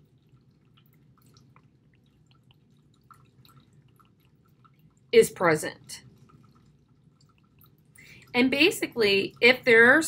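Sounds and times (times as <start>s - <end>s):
low steady hum: 0.0s - 10.0s
stylus ticking on tablet screen: 0.0s - 10.0s.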